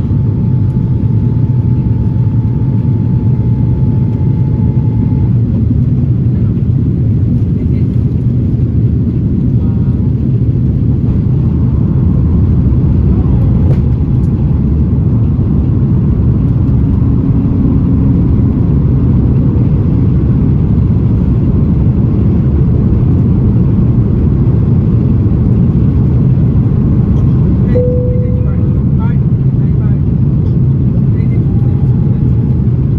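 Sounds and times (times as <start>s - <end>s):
aircraft cabin rumble: 0.0s - 32.9s.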